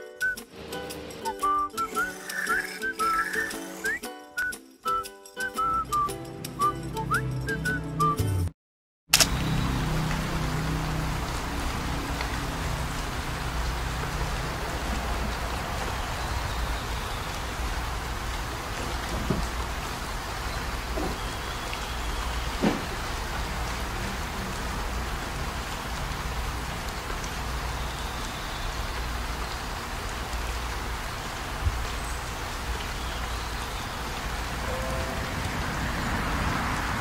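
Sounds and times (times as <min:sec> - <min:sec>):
steady rain: 0:00.0 - 0:03.9, 0:09.2 - 0:37.0.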